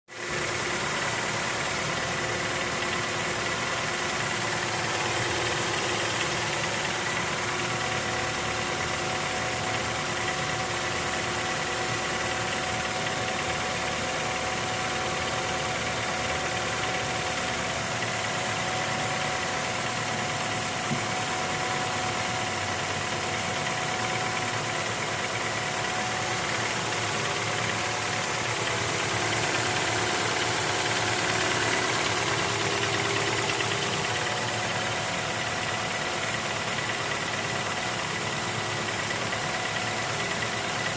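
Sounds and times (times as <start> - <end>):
car engine knocking: 0.1 - 40.9.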